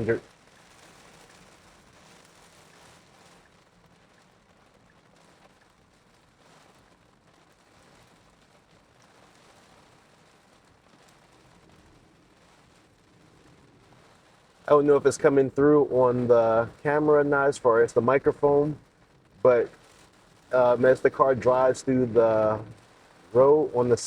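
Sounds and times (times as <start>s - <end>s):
tyres on wet road: 0.0s - 11.4s, 12.1s - 24.0s
heavy rain hiss: 0.0s - 24.0s.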